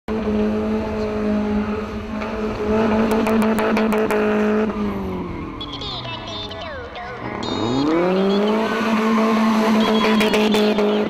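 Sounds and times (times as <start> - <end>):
car engine at steady revs: 0.1 - 6.0, 7.3 - 11.0.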